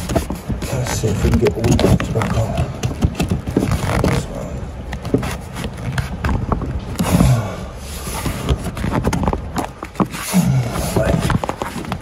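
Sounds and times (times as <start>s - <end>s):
clicks and rubbing of hoses: 0.0s - 12.0s
continuous low rumble: 0.0s - 12.0s.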